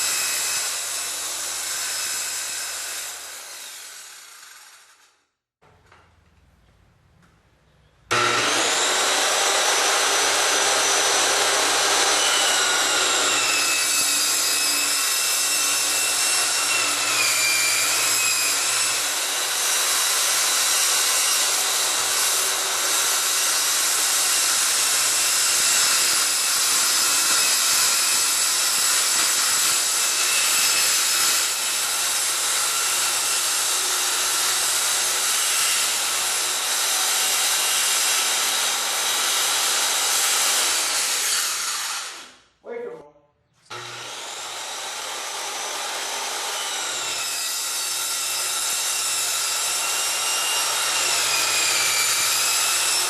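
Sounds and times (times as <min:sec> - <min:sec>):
circular saw cutting metal: 0:00.0 - 0:05.1, 0:08.1 - 0:42.3, 0:43.7 - 0:53.0.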